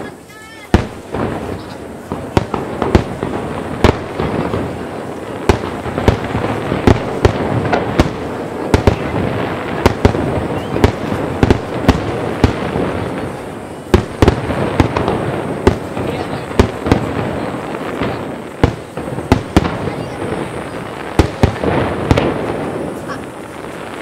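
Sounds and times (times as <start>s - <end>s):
fireworks bursting with bangs: 0.0s - 24.0s
fireworks rumble and crackle: 0.0s - 24.0s.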